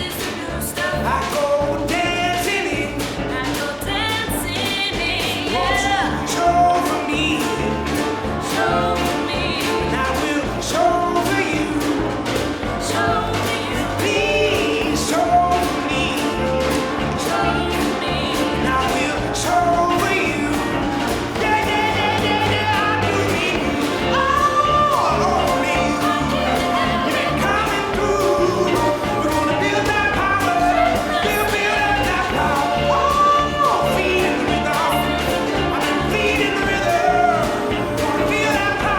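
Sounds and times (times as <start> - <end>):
pop-rock song with singing: 0.0 - 38.9.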